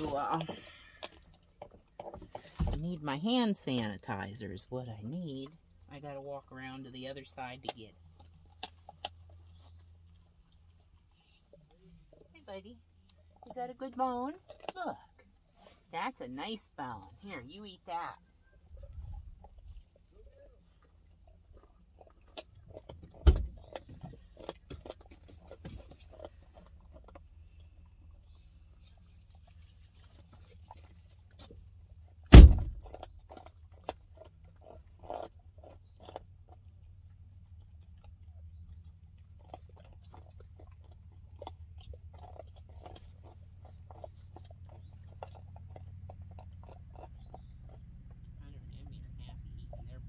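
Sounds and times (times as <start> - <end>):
dogs crunching bones: 0.0 - 2.6, 5.0 - 15.5, 18.3 - 50.0.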